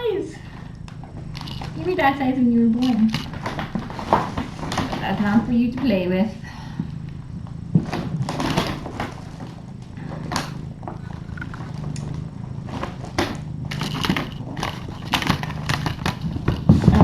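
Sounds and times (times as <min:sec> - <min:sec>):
steady low hum: 0:00.0 - 0:17.0
crinkling and rustling: 0:00.1 - 0:17.0.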